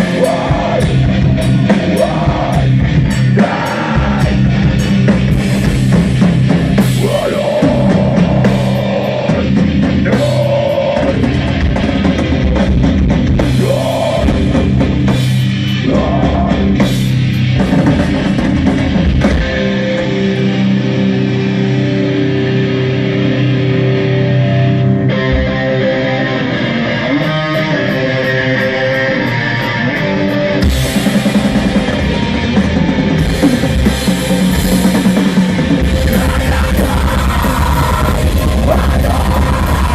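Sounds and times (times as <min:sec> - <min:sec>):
drum kit: 0:00.0 - 0:24.4, 0:25.1 - 0:39.9
guitar: 0:00.0 - 0:39.9.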